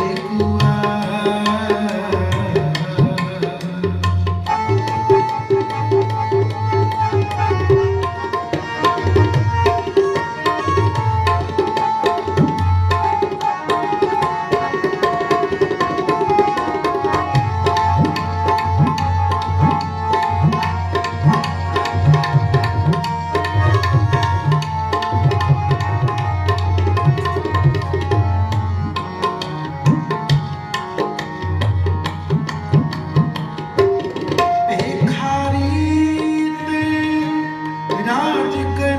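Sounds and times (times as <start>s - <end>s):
sustained harmonium tones: 0.0s - 38.9s
tabla rhythm: 0.0s - 38.9s.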